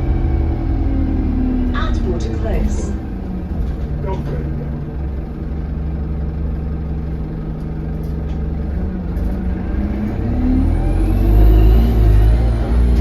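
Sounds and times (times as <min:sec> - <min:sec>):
bus engine revving: 0:00.0 - 0:13.0.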